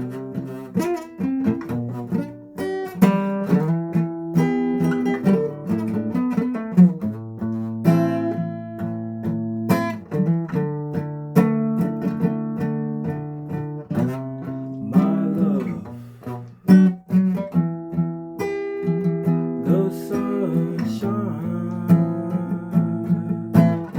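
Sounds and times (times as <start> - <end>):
guitar chords strummed: 0.0 - 23.9.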